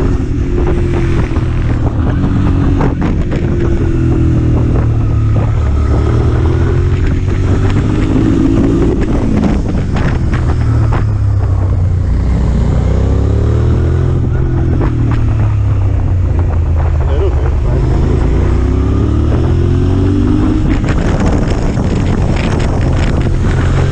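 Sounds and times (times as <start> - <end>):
motorcycle engine revving: 0.0 - 23.9
wind noise on microphone: 0.0 - 23.9.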